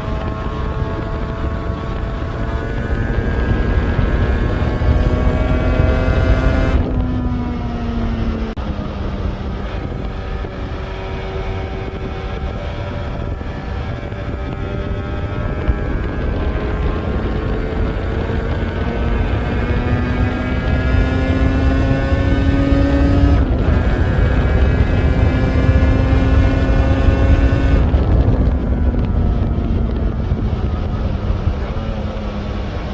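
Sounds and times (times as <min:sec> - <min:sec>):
two-stroke motorcycle engine running: 0:00.0 - 0:32.9.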